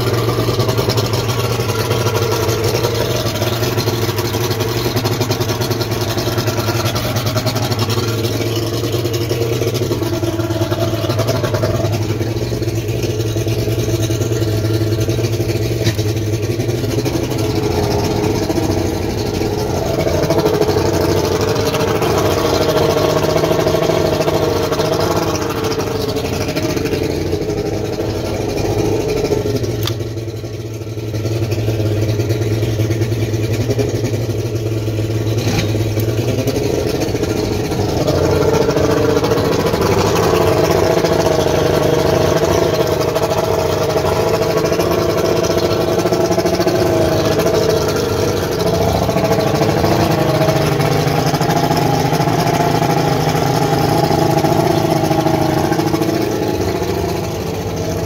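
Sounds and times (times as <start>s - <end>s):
outboard motor idling: 0.0s - 58.0s.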